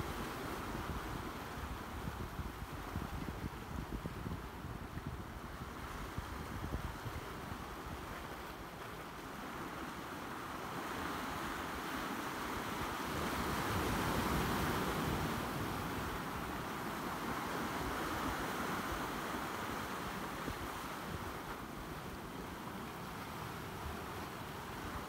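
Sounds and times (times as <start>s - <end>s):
waves breaking over rocks: 0.0s - 25.0s.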